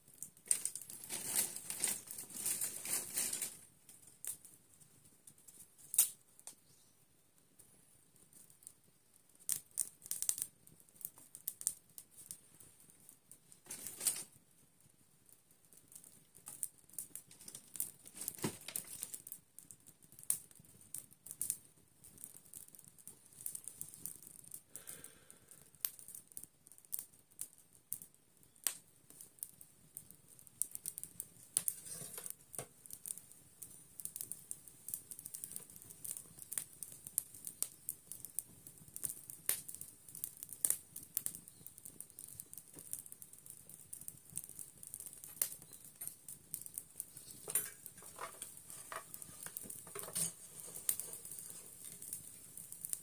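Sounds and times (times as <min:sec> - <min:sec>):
sharp crackles and clicks: 0:00.0 - 0:06.8, 0:08.2 - 0:14.4, 0:15.3 - 0:53.0
faint steady hiss: 0:00.0 - 0:53.0.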